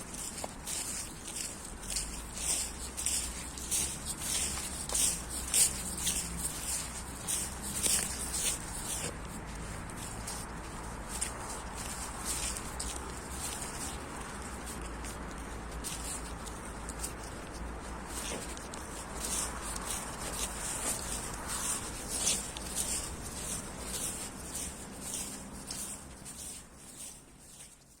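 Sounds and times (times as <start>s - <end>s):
footsteps crunching dry leaves: 0.0s - 28.0s.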